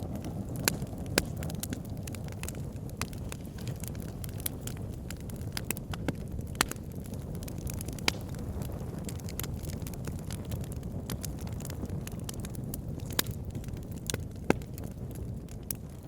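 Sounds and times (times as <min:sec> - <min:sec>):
fire crackling in a fireplace: 0:00.0 - 0:16.0
low rumble of fire: 0:00.0 - 0:16.0
sharp pops of fire: 0:00.0 - 0:16.0.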